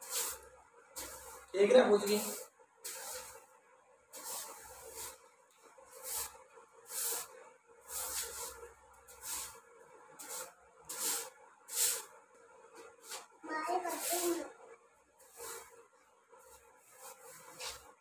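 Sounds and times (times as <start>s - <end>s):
broom sweeping concrete floor: 0.0s - 18.0s.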